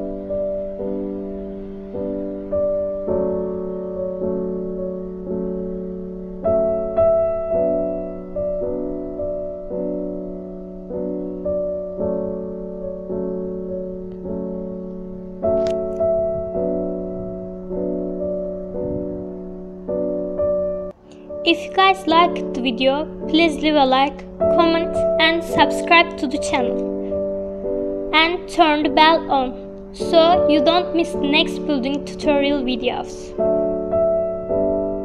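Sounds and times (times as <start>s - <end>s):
gentle piano music: 0.0s - 35.0s.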